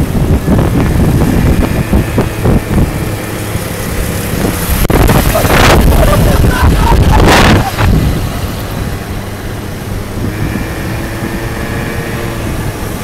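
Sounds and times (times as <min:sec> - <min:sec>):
low rumble of moving vehicle: 0:00.0 - 0:13.0
scooter engines running: 0:00.0 - 0:13.0
steady engine whine: 0:00.0 - 0:13.0
wind: 0:00.0 - 0:13.0.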